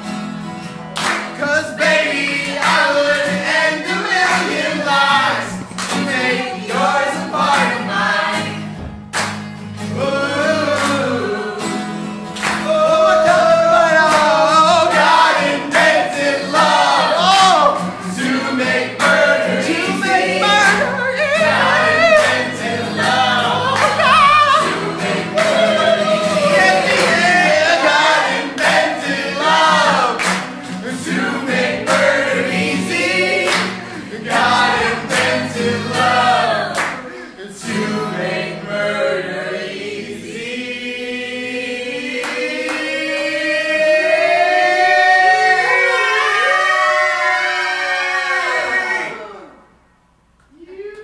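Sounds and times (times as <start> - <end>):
people singing in chorus: 1.4 - 9.0, 9.8 - 49.2.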